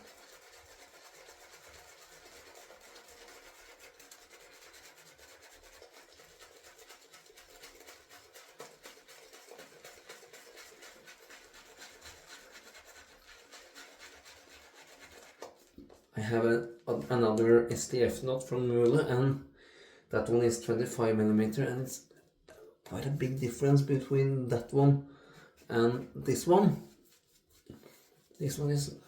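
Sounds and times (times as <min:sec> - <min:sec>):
shaving brush rubbing lather: 0:00.0 - 0:19.3, 0:22.9 - 0:24.8, 0:25.5 - 0:29.0.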